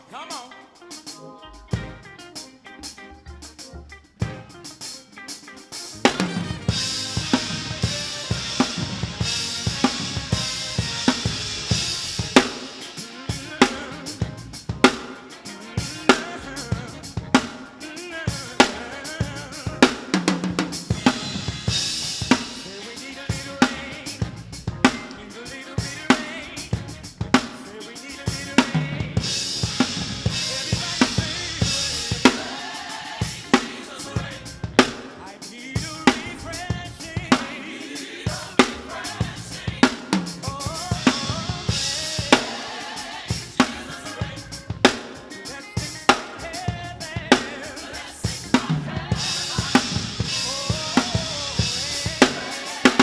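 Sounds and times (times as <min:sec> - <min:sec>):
backing music: 0:00.0 - 0:53.0
drum kit playing a groove: 0:00.0 - 0:53.0.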